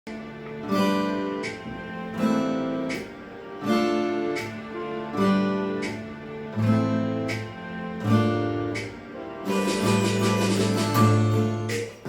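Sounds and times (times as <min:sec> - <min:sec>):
acoustic guitar strumming chords: 0:00.1 - 0:12.0
plucked guitar notes: 0:00.1 - 0:12.0.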